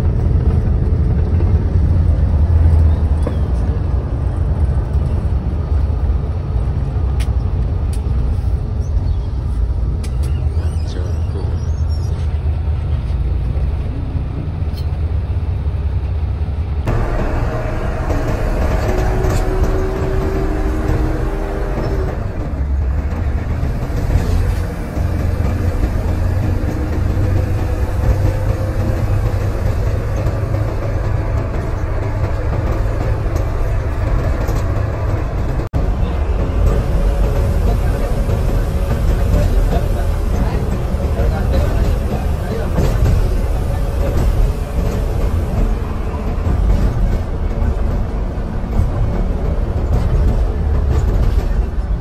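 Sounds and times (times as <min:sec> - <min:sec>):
bus diesel engine rumble: 0:00.0 - 0:52.0
road noise: 0:00.0 - 0:52.0.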